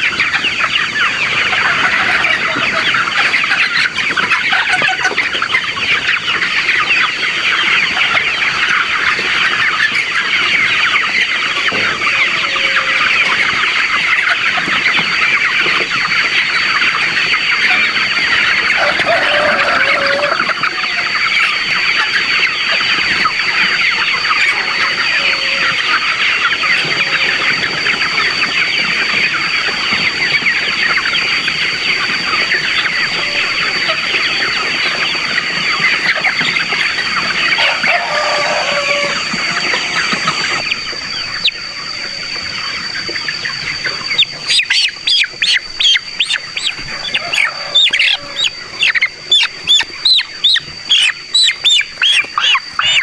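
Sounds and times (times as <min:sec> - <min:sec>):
chickens clucking and cheeping: 0:00.0 - 0:53.0.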